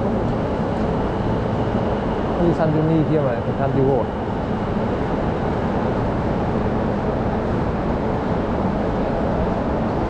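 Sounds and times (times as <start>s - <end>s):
low train rumble: 0.0s - 10.0s.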